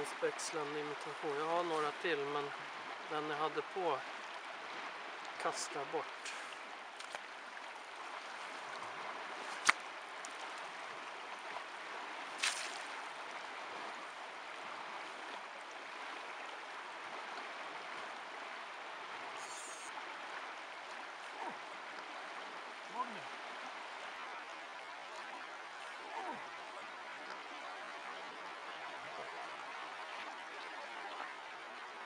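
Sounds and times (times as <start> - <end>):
flowing river: 0.0 - 32.0.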